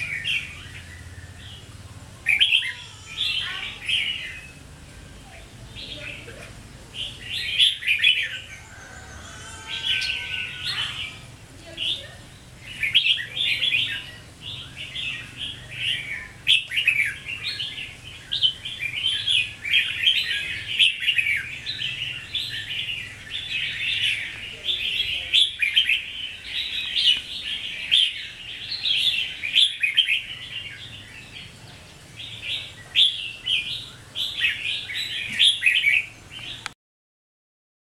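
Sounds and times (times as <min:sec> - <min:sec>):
bird chirping: 0:00.0 - 0:36.8.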